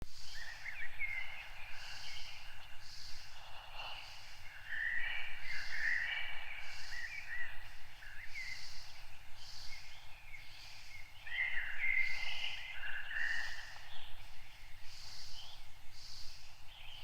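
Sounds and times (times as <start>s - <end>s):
birds chirping and warbling: 0.1s - 17.0s.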